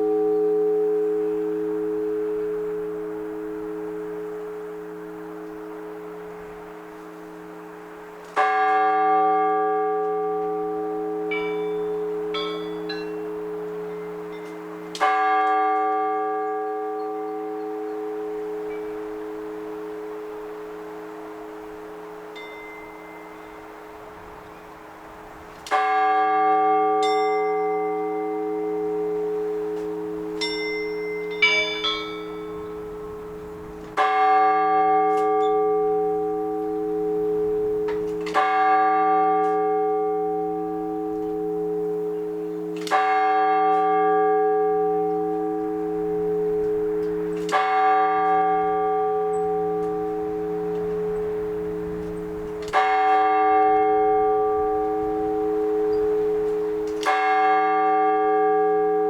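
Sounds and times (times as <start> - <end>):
large church bell ringing: 0.0 - 59.0
smaller higher bells: 0.0 - 59.0.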